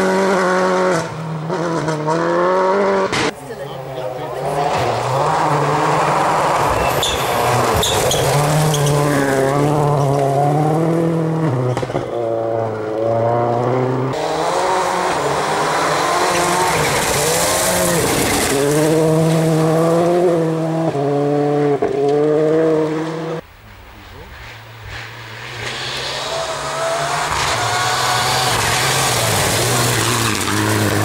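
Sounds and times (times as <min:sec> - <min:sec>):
rally car engine revving: 0:00.0 - 0:23.4, 0:24.3 - 0:31.0.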